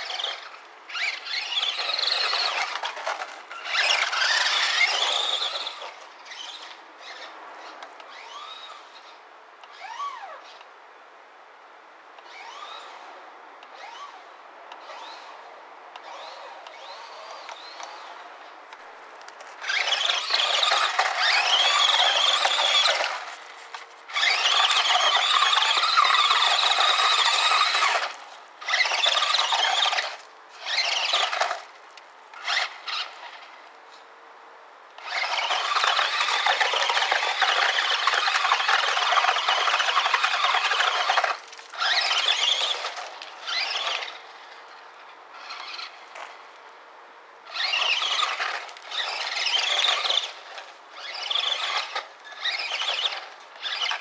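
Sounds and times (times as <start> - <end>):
toy car electric motor whining: 0.0 - 10.6, 12.2 - 18.3, 19.6 - 31.7, 32.4 - 34.0, 35.0 - 46.4, 47.4 - 54.0.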